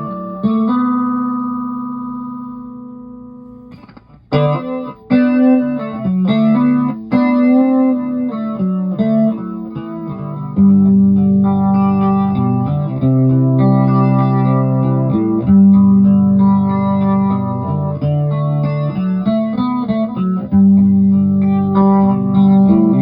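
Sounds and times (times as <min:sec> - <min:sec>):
flanged electric guitar: 0:00.0 - 0:23.0.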